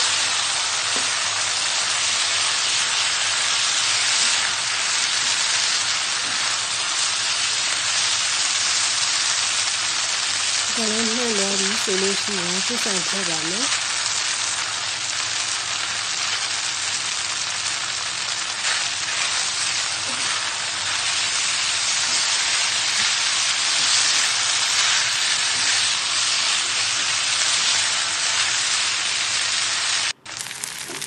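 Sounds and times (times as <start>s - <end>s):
food sizzling in a hot pan: 0.0s - 31.0s.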